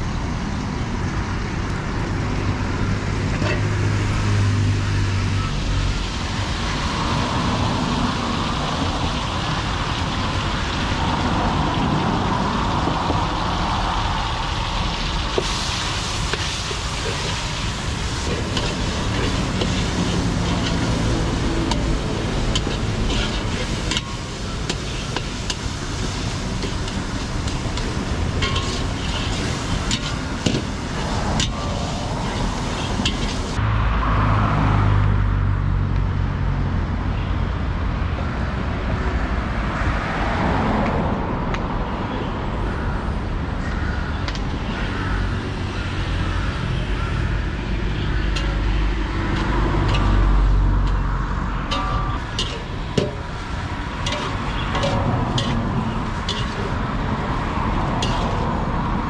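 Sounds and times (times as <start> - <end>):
deep engine rumble: 0.0 - 37.3, 42.7 - 59.0
road traffic noise: 0.0 - 59.0.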